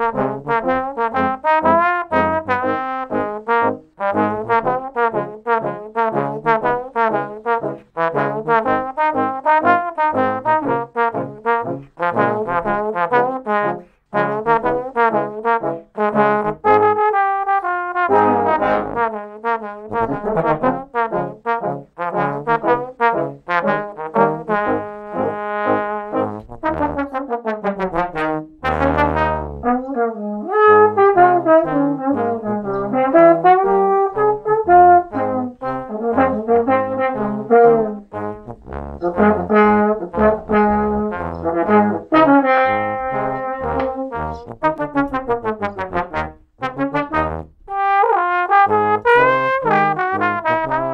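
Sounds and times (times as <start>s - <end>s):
trombone quartet playing: 0.0s - 50.9s.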